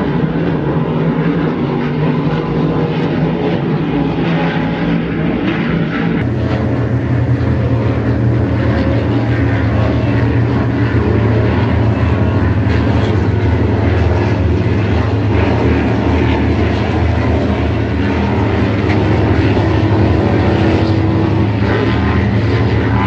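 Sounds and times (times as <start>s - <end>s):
low-flying helicopter: 0.0s - 23.0s
powerboat engines droning: 0.0s - 23.0s.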